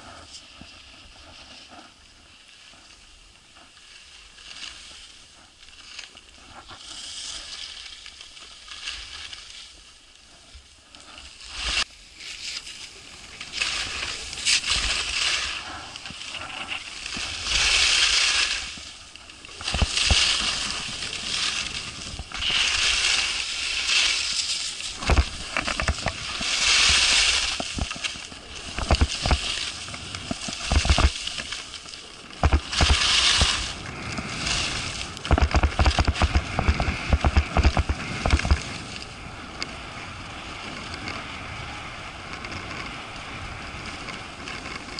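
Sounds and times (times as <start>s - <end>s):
skis carving on snow: 0.0s - 44.9s.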